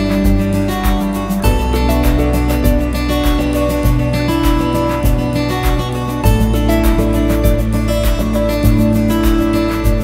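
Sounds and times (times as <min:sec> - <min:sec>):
strummed acoustic guitar with beat: 0:00.0 - 0:10.0.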